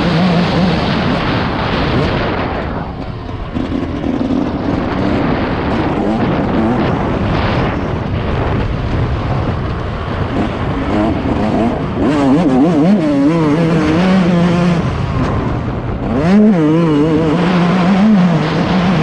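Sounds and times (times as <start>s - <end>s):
motorcycle engine revving: 0.0s - 19.0s
wind rushing on microphone: 0.0s - 19.0s.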